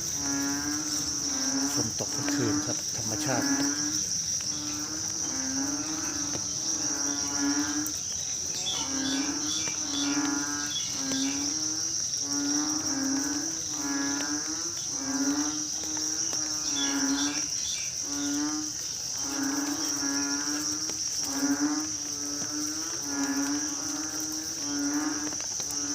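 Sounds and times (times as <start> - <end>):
frogs calling: 0.0 - 25.9
insects droning: 0.0 - 25.9.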